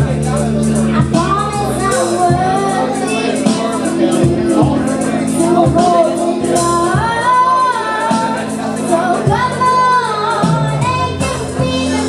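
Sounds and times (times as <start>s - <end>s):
karaoke backing track: 0.0s - 12.0s
girl singing into a microphone: 0.9s - 12.0s.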